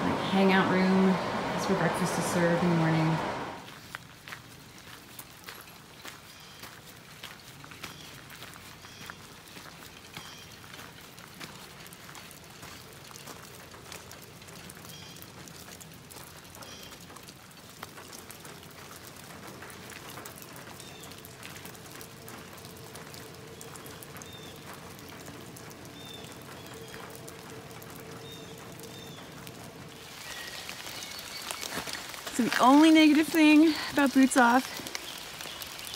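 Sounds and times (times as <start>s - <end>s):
rain falling: 0.0s - 35.9s.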